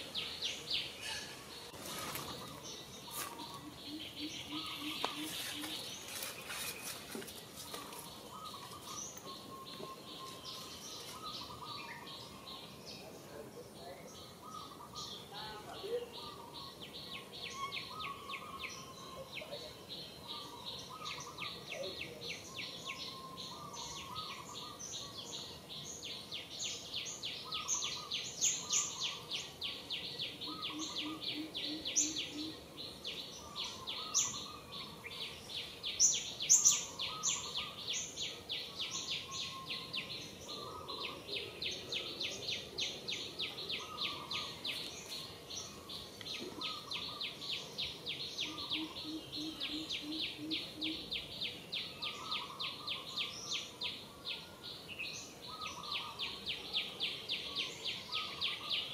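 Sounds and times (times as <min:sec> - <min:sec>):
birds calling and chirping: 0:00.0 - 0:58.9.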